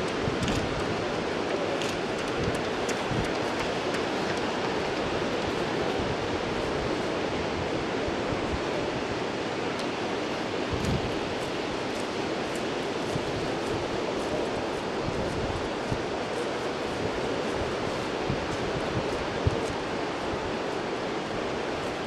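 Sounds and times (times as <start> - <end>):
sea surf: 0.0 - 22.0
wind: 0.0 - 22.0.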